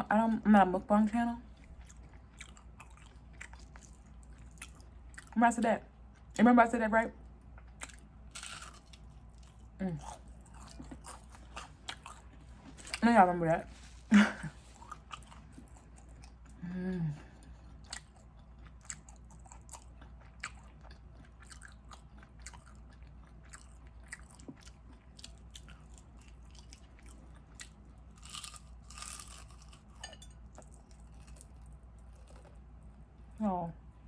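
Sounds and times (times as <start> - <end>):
crunchy chewing: 1.5 - 5.4, 7.6 - 13.0, 13.7 - 16.6, 17.4 - 32.6.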